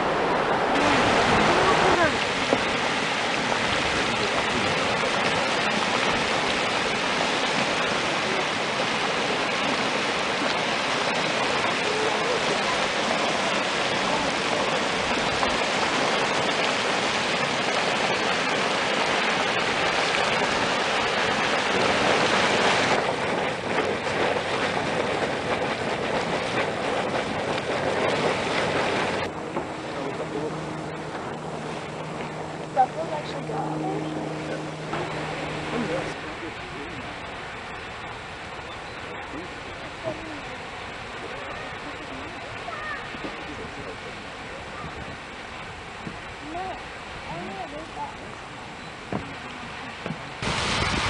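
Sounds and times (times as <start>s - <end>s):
hot spring boiling and splashing: 0.0s - 51.0s.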